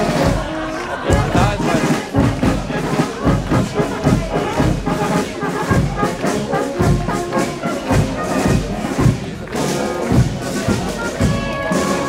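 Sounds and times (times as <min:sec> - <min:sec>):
bass drum beating: 0:00.0 - 0:11.5
brass band playing a march: 0:00.0 - 0:12.0.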